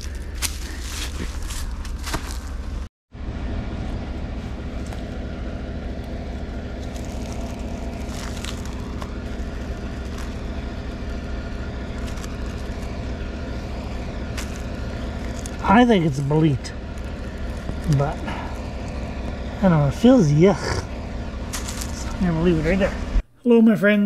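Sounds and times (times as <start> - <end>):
truck engine and road drone: 0.0 - 23.4.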